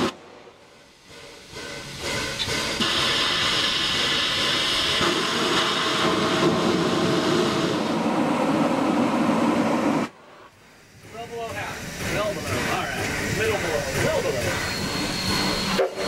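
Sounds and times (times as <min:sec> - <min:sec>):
steam blasting from valve: 0:00.0 - 0:16.0.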